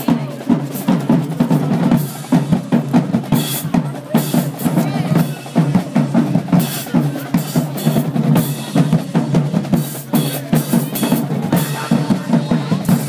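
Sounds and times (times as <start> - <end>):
drumline playing cadence: 0.0 - 13.0.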